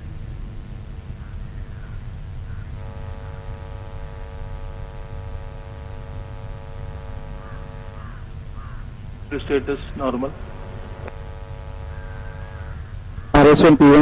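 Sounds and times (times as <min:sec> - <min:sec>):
constant low rumble: 0:00.0 - 0:14.0
steady electrical hum: 0:00.0 - 0:14.0.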